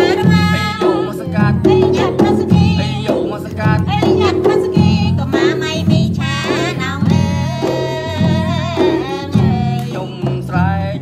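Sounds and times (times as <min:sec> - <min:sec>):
song with wavering sung melody: 0:00.0 - 0:11.0.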